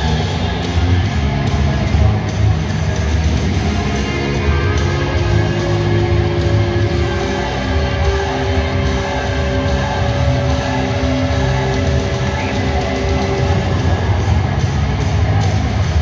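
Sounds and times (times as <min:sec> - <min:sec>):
heavy rock music over loudspeakers: 0:00.0 - 0:16.0.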